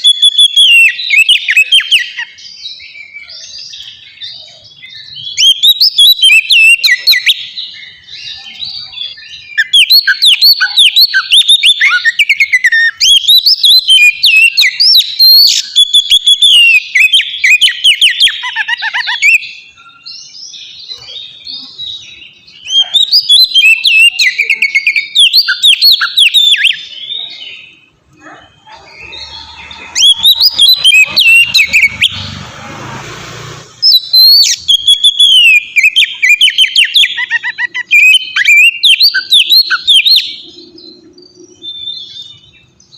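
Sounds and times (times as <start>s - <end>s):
bird song whistles and chirps: 0.0s - 32.6s, 33.7s - 42.9s.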